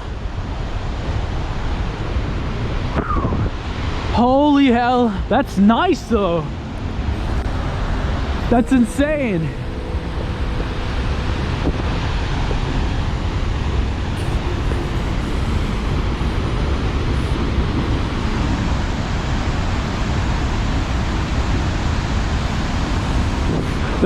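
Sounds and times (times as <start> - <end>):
creek rapids roaring: 3.6 - 24.0.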